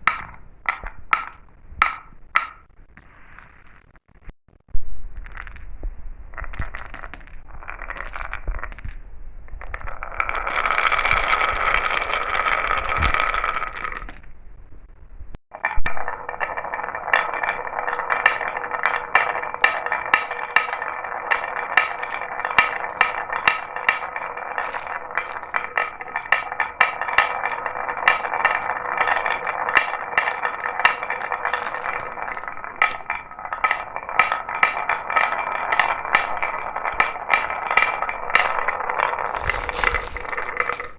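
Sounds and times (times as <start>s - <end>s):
marbles clicking and clacking: 0.0s - 4.0s, 5.2s - 5.7s, 6.4s - 14.3s, 15.6s - 40.9s
marbles rolling rumble: 0.0s - 4.3s, 5.1s - 14.4s, 15.6s - 40.9s.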